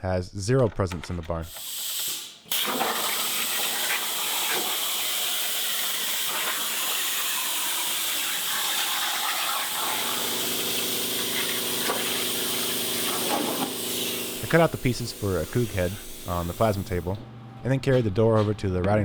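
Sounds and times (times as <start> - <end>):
plasma torch cutting steel: 1.5 - 17.2.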